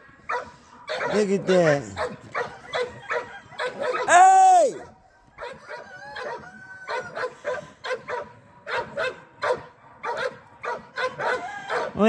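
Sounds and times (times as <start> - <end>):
dog yipping and barking: 0.3 - 1.2, 2.0 - 4.2, 5.4 - 12.0.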